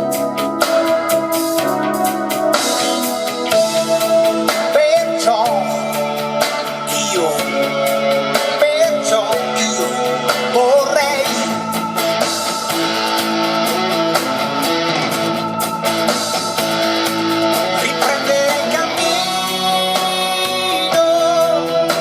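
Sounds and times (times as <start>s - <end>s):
pop song over loudspeakers: 0.0s - 22.0s.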